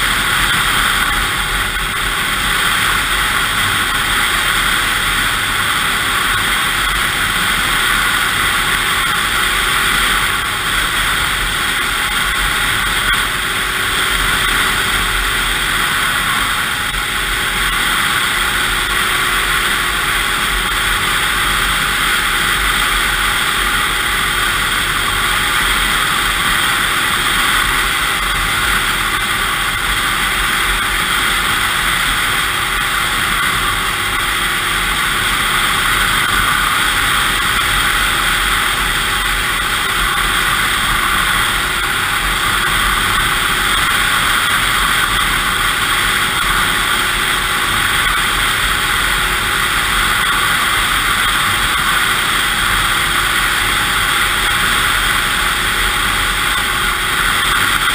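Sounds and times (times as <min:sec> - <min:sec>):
snowmobile engine running: 0:00.0 - 0:57.9.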